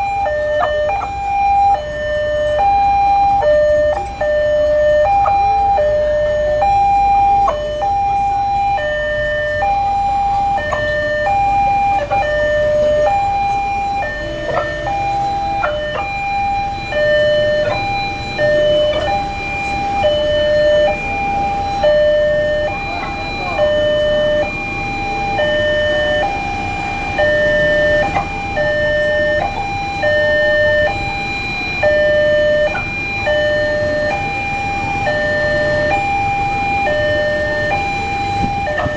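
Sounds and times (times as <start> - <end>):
level crossing two-tone alarm: 0.0 - 38.9.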